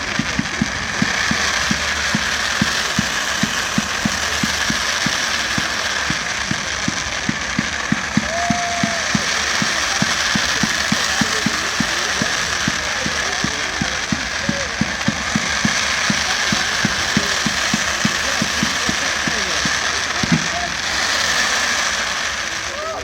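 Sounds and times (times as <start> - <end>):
rhythmic mechanical thuds: 0.0 - 20.8
constant hiss: 0.0 - 23.0.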